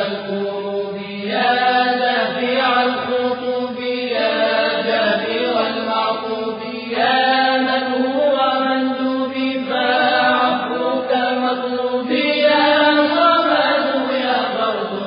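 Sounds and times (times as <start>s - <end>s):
person chanting: 0.0s - 15.0s.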